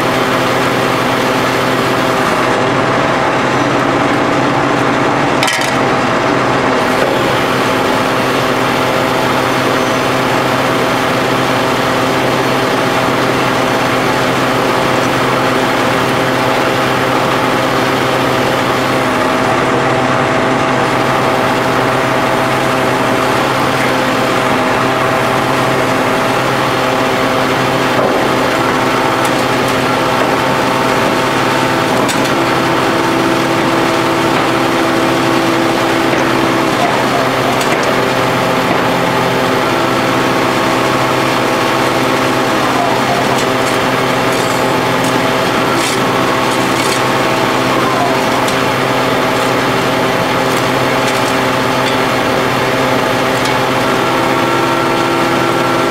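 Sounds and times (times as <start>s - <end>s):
hydraulic machine drone: 0.0s - 55.9s.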